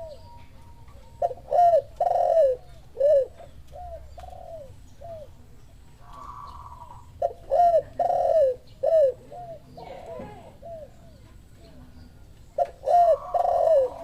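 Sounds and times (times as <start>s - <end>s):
doves cooing: 0.0s - 14.0s.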